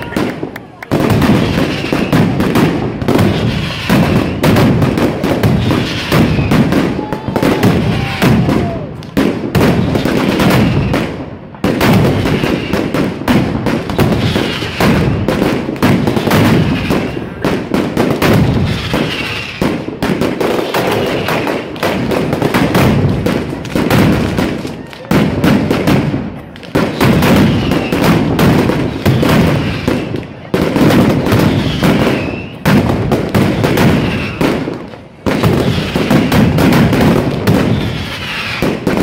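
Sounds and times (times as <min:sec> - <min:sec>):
string of firecrackers banging: 0:00.0 - 0:39.0.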